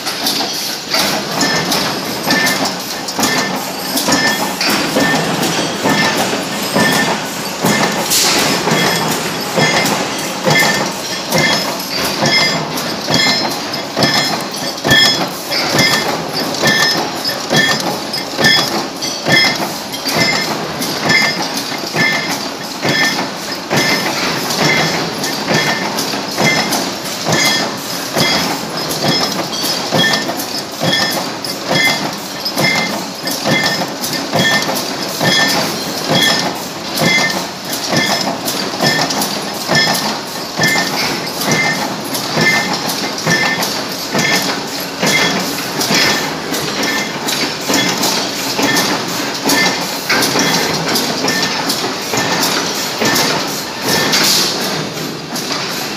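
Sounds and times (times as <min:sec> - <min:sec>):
power press stroking with metallic ring: 0:00.0 - 0:55.6
workshop machine noise: 0:00.0 - 0:55.9.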